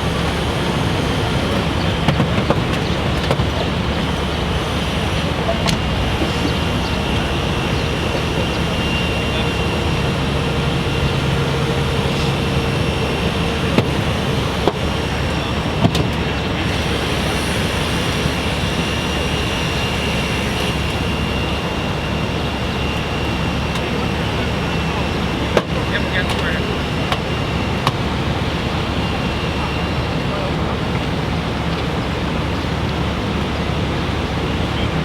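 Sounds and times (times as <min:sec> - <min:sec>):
engines running: 0:00.0 - 0:35.0
faint high whine: 0:00.0 - 0:35.0.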